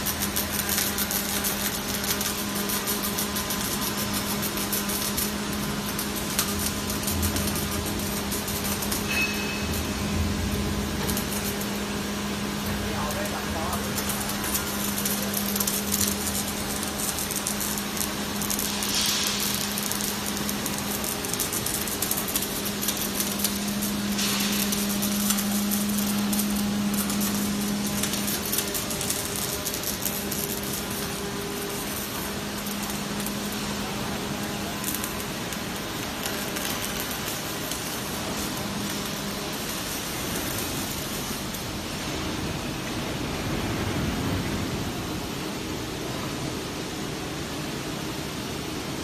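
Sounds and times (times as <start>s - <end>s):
machine hum: 0.0s - 49.0s
welding arc crackling sizzle: 0.0s - 49.0s.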